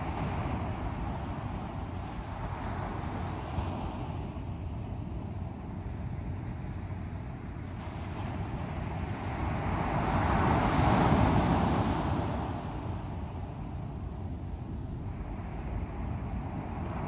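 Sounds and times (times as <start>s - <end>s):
waves breaking on shore: 0.0s - 17.0s.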